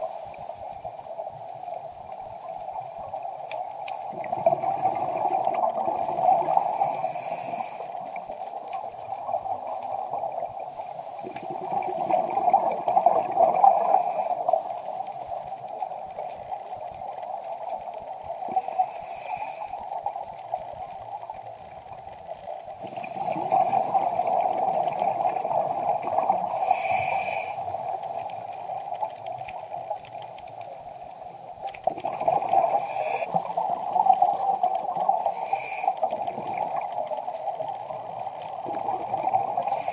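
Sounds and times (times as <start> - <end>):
steady water hiss: 0.0 - 39.9
underwater bubbles gurgling: 0.0 - 39.9.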